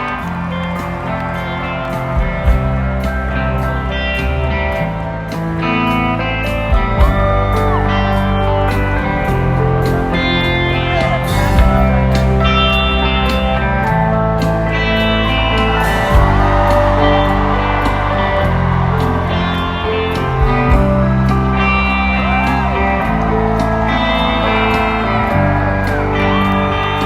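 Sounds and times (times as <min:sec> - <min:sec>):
electric guitar bending notes: 0:00.0 - 0:27.0
sustained bass: 0:00.0 - 0:27.0.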